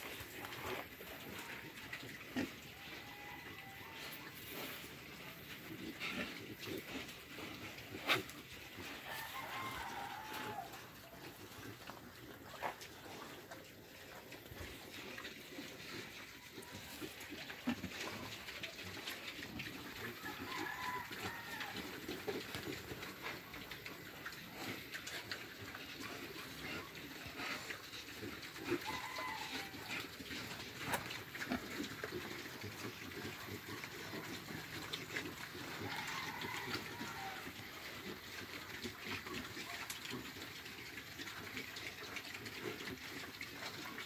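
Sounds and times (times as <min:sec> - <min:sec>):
pigs grunting: 0:00.0 - 0:44.0
pigs high-pitched calls: 0:00.0 - 0:44.0.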